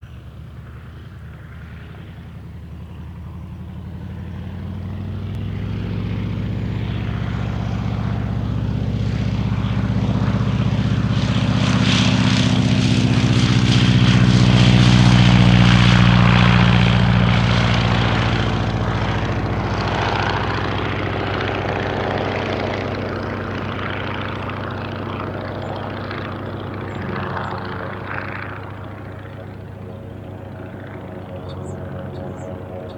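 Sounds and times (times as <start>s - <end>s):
biplane radial engine and propeller: 0.0s - 32.9s.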